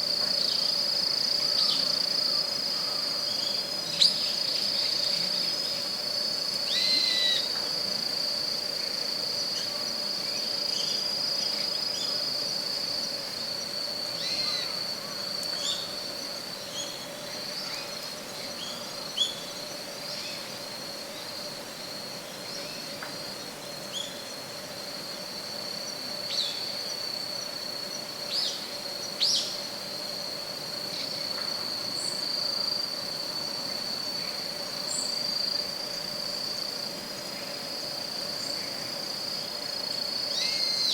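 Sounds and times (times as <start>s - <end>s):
high-pitched insect trill: 0.0s - 40.9s.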